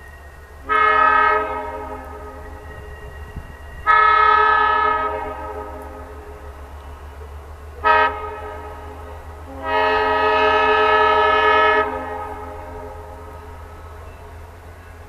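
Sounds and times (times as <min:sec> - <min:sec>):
locomotive air horn blasts: 0:00.6 - 0:06.6, 0:07.8 - 0:14.3.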